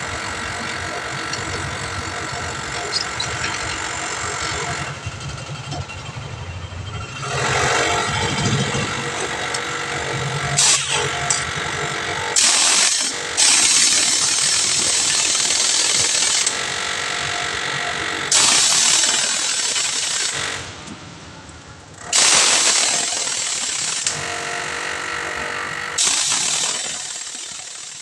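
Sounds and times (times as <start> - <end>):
pneumatic impact wrench: 0.0 - 6.2, 7.2 - 20.9, 22.0 - 28.0.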